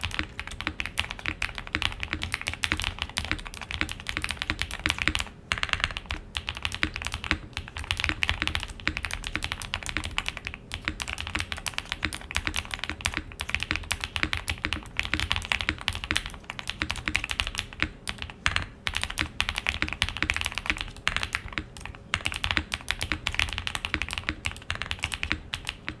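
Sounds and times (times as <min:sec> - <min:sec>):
fast mechanical keyboard typing: 0:00.0 - 0:26.0.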